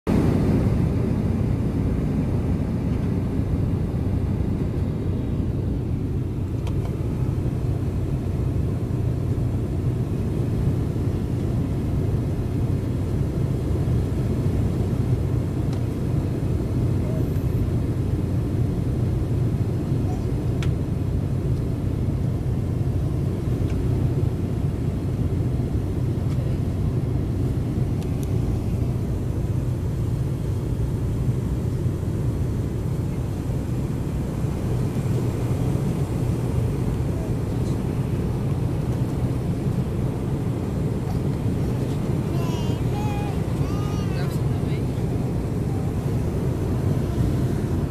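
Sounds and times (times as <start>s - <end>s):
airliner engines rumbling in cabin: 0.1s - 47.9s.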